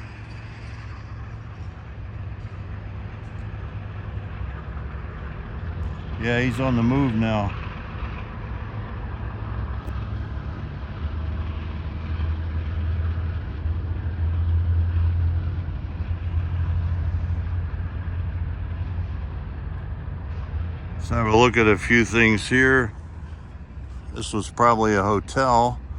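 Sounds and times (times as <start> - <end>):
locomotive engine drone: 0.0 - 25.9.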